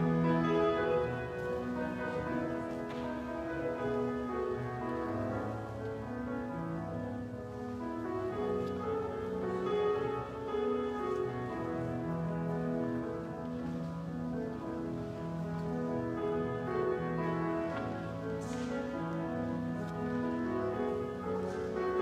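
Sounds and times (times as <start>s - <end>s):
slow church keyboard music: 0.0s - 22.0s.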